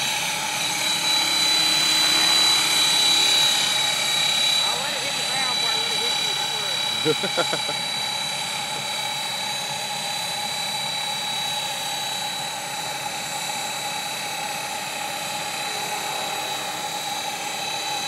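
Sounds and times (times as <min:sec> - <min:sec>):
model helicopter rotor whine: 0:00.0 - 0:18.0.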